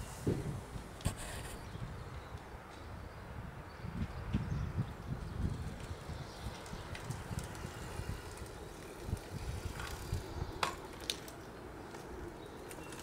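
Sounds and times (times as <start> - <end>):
bicycle low gusty rumble: 0.0 - 13.0.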